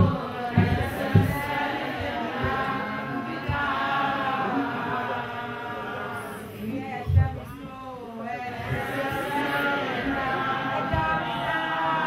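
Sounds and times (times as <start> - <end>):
group singing a chant-like song: 0.0 - 12.0.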